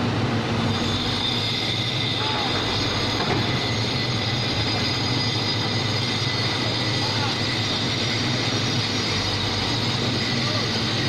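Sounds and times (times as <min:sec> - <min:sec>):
excavator engine running: 0:00.0 - 0:11.0
high steady whine: 0:00.0 - 0:11.0.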